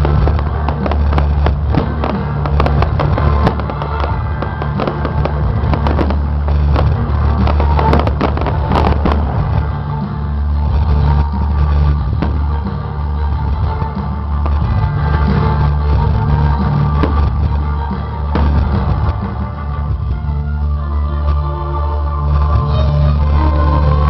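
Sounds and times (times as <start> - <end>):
fireworks bangs and crackles: 0.0 - 20.7
loud music with heavy bass: 0.0 - 24.0.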